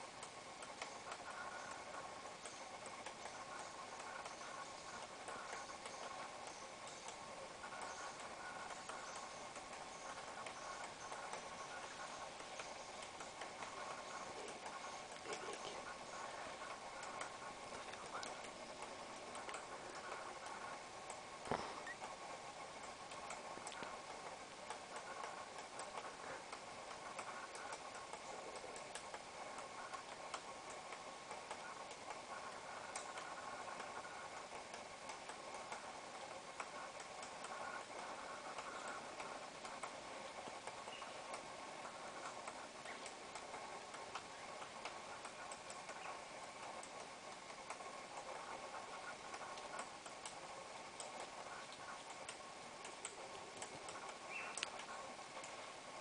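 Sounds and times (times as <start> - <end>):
steady background drone: 0.0 - 56.0.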